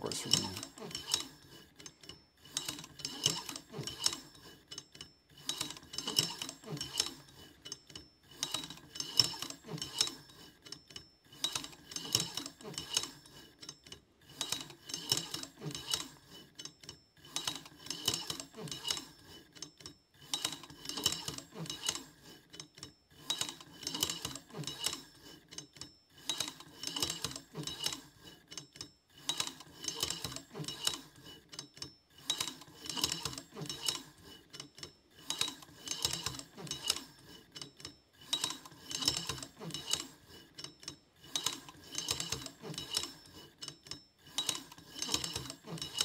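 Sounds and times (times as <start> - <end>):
stepper motor whine with clicking: 0.0 - 46.0.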